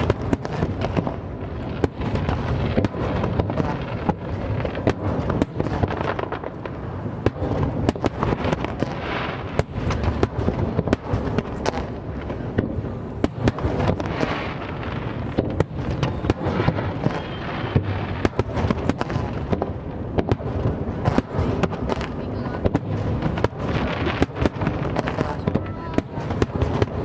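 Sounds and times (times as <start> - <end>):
fireworks bangs and pops: 0.0 - 27.0
fireworks crackling: 0.0 - 27.0.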